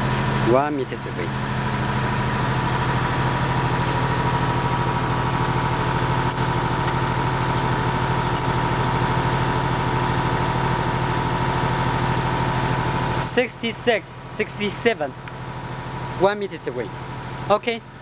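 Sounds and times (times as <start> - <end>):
diesel generator humming: 0.0 - 18.0.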